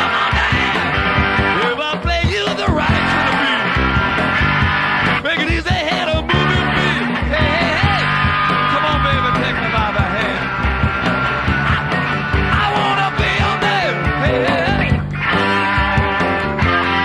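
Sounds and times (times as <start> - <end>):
person singing: 0.0 - 3.8, 5.2 - 10.5, 11.8 - 16.4
bass guitar: 0.0 - 17.0
drums: 0.0 - 17.0
electric guitars: 0.0 - 17.0.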